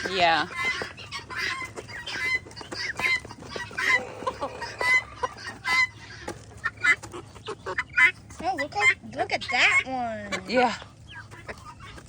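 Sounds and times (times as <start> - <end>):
poultry clucking: 0.0 - 12.0.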